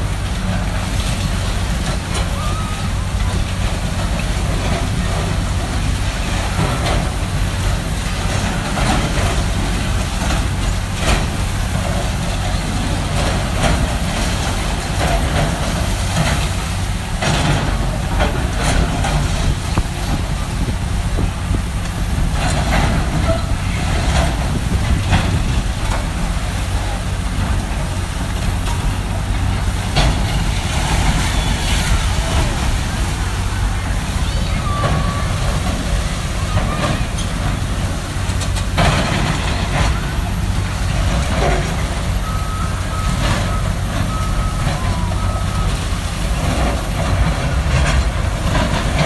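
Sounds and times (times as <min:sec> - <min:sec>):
heavy diesel machinery running: 0:00.0 - 0:49.0
debris crunching and crashing: 0:00.1 - 0:49.0.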